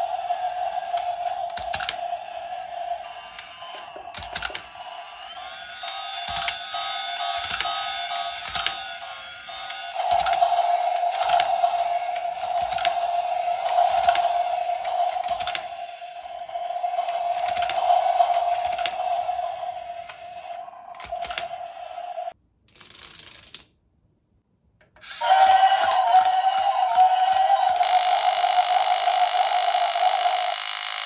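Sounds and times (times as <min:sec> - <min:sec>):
small electric motor whine: 0:00.0 - 0:22.3, 0:25.0 - 0:31.0.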